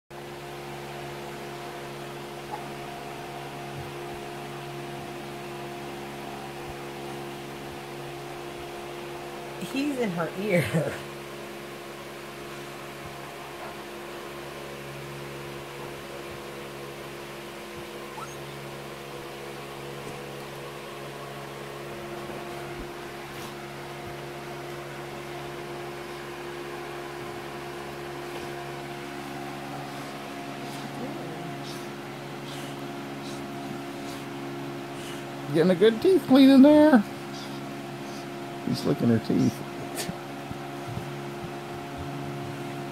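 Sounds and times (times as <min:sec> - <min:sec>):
appliance humming: 0:00.1 - 0:42.9.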